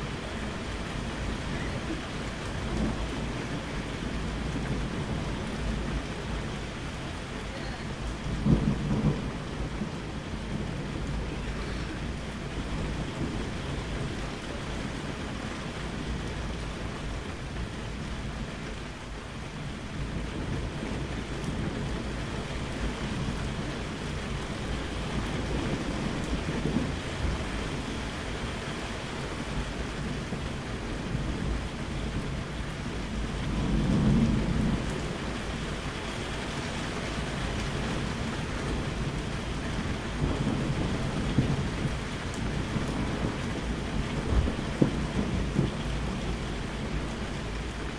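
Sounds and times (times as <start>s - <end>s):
steady rain: 0.0s - 47.9s
thunder rumbling: 0.0s - 47.9s.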